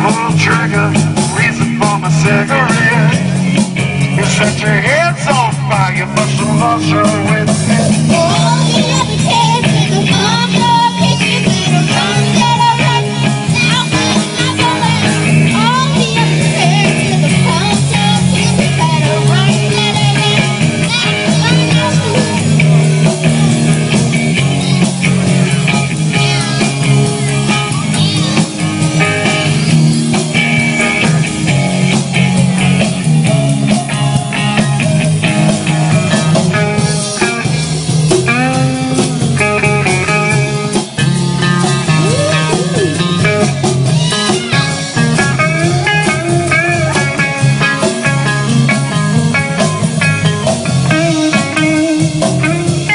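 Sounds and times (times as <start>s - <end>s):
bass line: 0.0s - 52.9s
drum kit: 0.0s - 52.9s
electric guitar bending notes: 0.0s - 52.9s.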